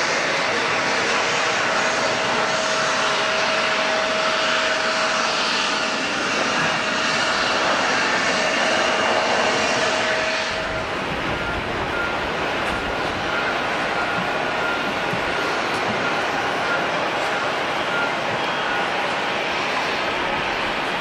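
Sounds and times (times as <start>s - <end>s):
jet engines rushing with whine: 0.0s - 21.0s.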